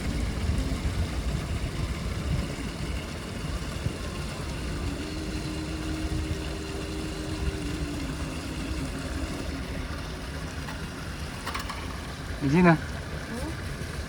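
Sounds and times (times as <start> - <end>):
motor hum: 0.0 - 14.0
steady low rumble: 0.0 - 14.0.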